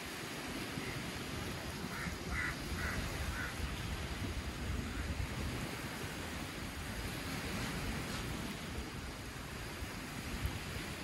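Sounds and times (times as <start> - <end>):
waves washing onto sandy shore: 0.0 - 11.0
wind: 0.0 - 11.0.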